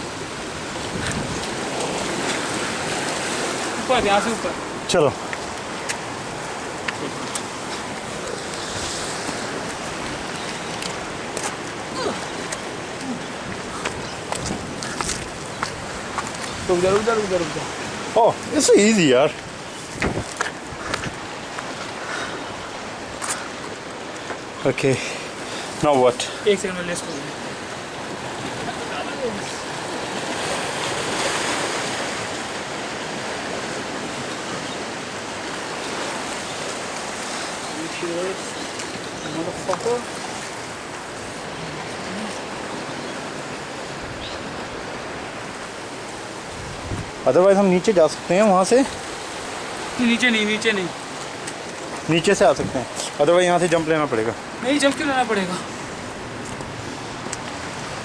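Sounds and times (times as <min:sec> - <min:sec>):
ocean surf: 0:00.0 - 0:58.0.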